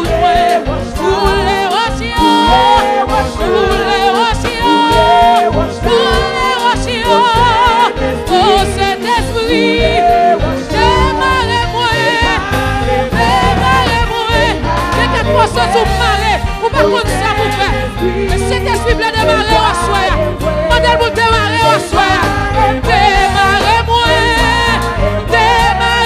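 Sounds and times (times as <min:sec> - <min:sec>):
instrumental accompaniment with bass: 0:00.0 - 0:26.0
woman singing into microphone: 0:00.0 - 0:26.0.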